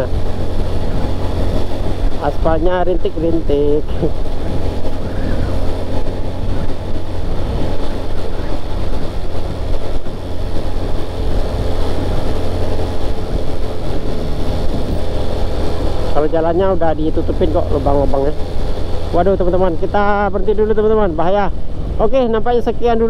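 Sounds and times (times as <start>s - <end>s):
vehicle driving on wet road: 0.0s - 23.0s.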